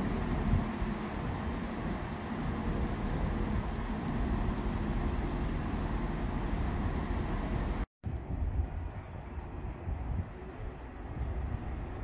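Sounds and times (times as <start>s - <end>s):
train rumbling with hiss: 0.0s - 12.0s.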